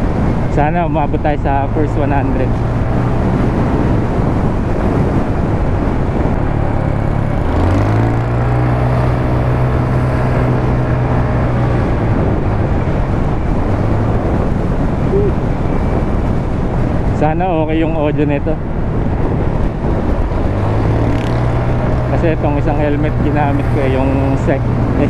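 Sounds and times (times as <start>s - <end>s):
motorcycle engine: 0.0s - 17.3s, 18.1s - 25.0s
wind rush: 0.0s - 25.0s.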